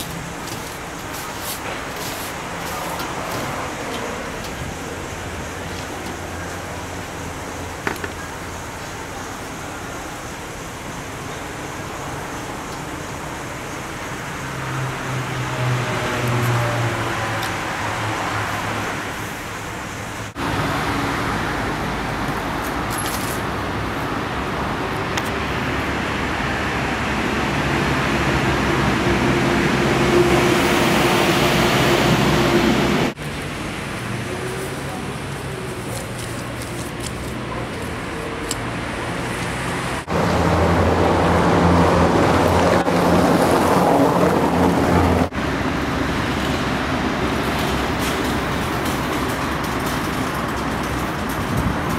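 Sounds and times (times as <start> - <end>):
city traffic noise: 0.0 - 51.9.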